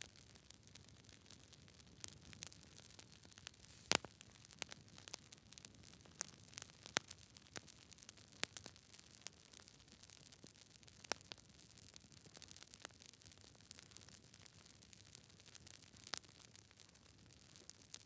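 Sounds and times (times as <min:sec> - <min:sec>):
campfire crackling: 0:00.2 - 0:14.1, 0:15.1 - 0:16.4.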